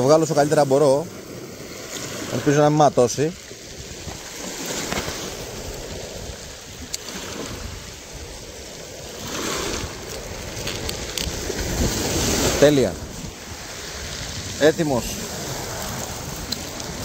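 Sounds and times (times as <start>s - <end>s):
sea waves washing on shore: 0.0s - 17.0s
wind on microphone: 0.0s - 17.0s.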